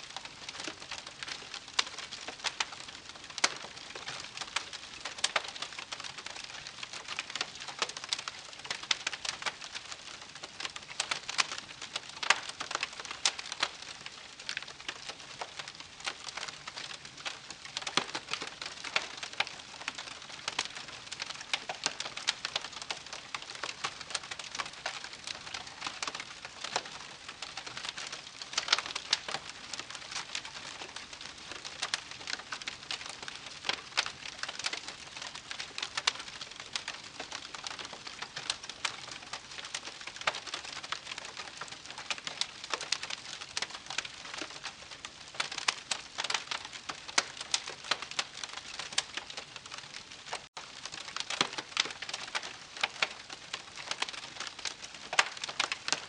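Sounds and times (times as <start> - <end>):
campfire crackling and popping: 0.1 - 56.0.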